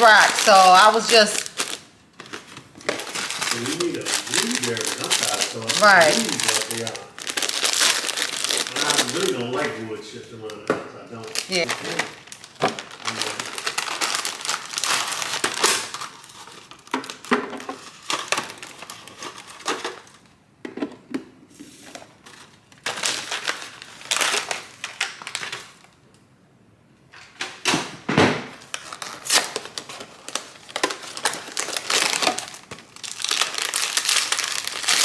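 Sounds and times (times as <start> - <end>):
packaging crinkling: 0.0 - 20.3, 21.8 - 26.0, 28.5 - 35.0.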